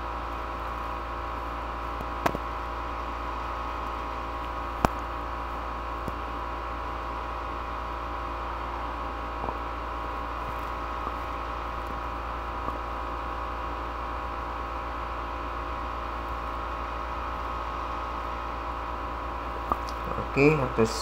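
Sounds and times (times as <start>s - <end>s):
electrical hum and hiss: 0.0s - 21.0s.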